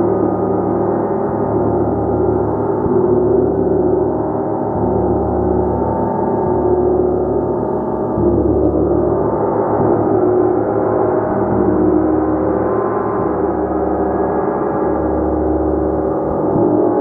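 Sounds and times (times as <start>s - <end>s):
large gong shimmering: 0.0s - 17.0s.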